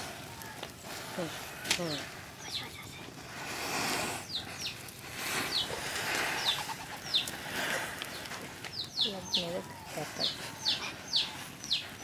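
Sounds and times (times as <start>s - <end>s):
matches flaring with rushing hiss: 0.0s - 12.0s
birds peeping: 0.3s - 3.1s, 3.7s - 12.0s.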